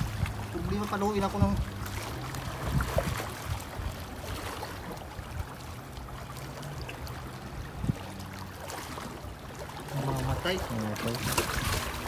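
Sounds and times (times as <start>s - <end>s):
seawater lapping among rocks: 0.0s - 12.0s.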